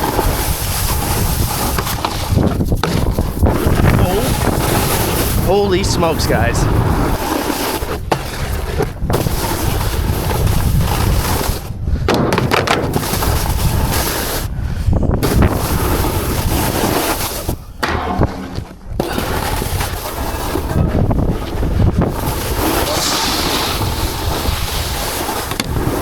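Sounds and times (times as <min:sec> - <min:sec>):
wind buffeting microphone: 0:00.0 - 0:07.3, 0:07.9 - 0:12.1, 0:12.9 - 0:26.0
snowboard scraping over snow: 0:00.0 - 0:11.8, 0:12.8 - 0:17.8, 0:19.0 - 0:26.0.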